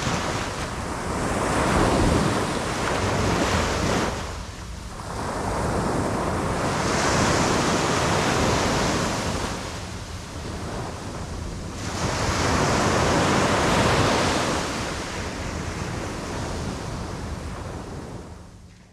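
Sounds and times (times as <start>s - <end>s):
sea waves breaking on beach: 0.0s - 18.3s.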